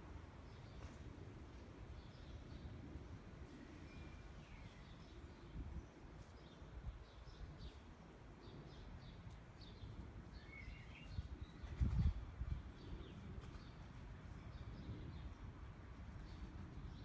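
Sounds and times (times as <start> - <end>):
small birds chirping: 0.4 - 15.6.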